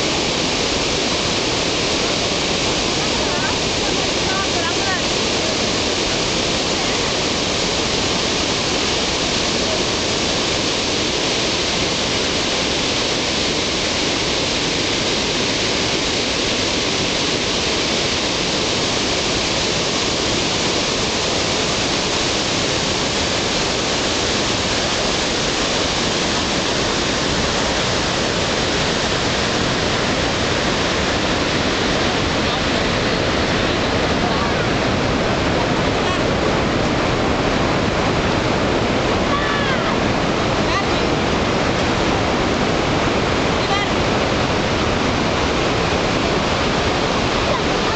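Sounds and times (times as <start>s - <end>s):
waterfall crashing over rocks: 0.0s - 47.9s.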